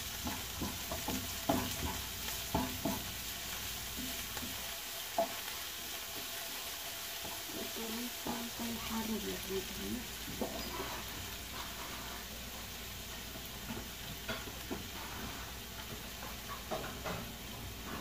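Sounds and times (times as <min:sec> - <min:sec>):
garlic sizzling in hot oil: 0:00.0 - 0:18.0.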